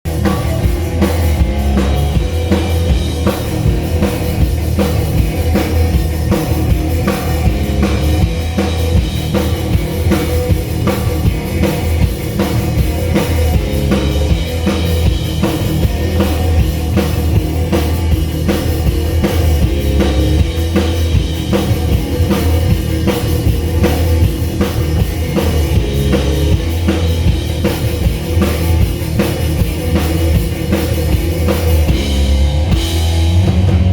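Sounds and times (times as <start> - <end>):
rock band playing loudly: 0.0 - 33.9.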